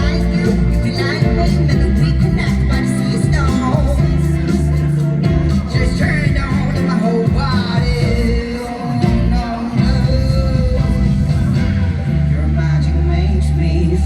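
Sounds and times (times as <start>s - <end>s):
live pop-rock song through pa: 0.0s - 14.0s.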